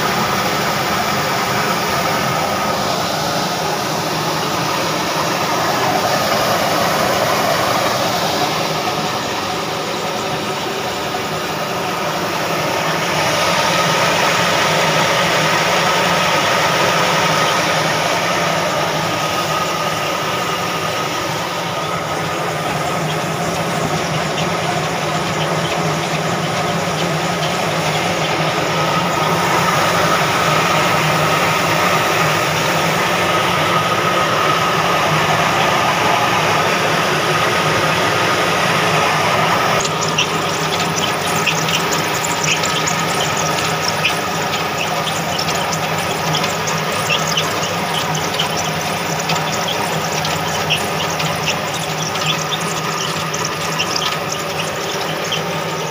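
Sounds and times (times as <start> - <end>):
high machine whine: 0.0 - 55.9
old diesel engine running: 0.0 - 55.9.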